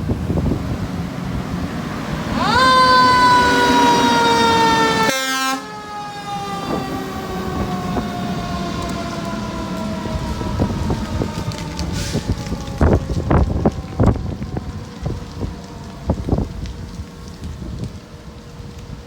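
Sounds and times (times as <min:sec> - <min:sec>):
fire truck siren: 0:00.0 - 0:19.0
truck rumbling: 0:00.0 - 0:19.0.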